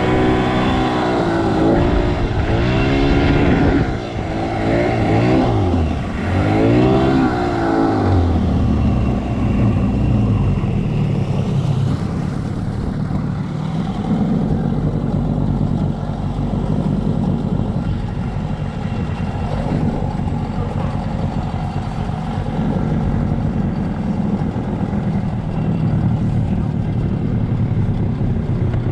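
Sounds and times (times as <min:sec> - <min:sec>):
jet ski engine revving: 0:00.0 - 0:28.9.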